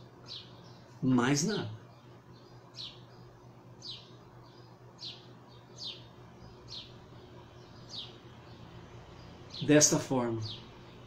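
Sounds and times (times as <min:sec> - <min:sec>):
faint low hum: 0:00.0 - 0:11.0
small bird chirping: 0:00.0 - 0:11.0.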